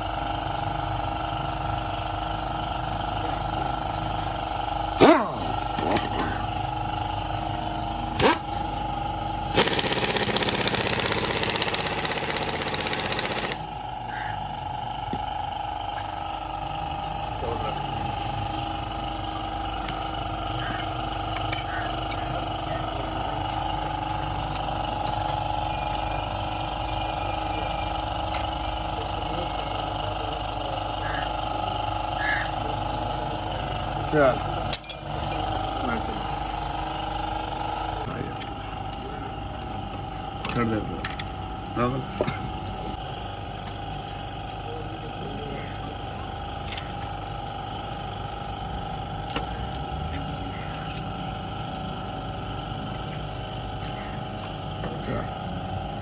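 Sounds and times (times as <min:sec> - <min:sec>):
machine hum: 0:00.0 - 0:56.0.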